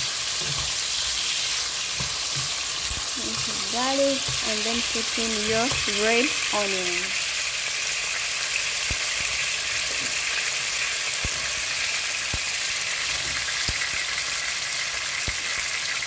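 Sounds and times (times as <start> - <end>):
chicken sizzling in frying pan: 0.0 - 16.0.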